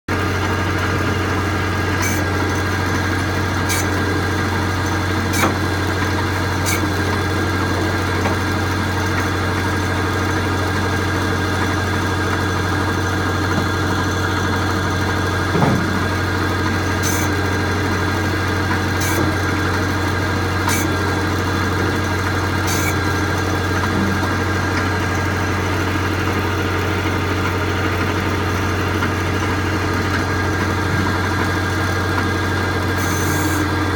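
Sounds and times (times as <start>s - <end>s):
tractor engine idling: 0.1s - 33.9s.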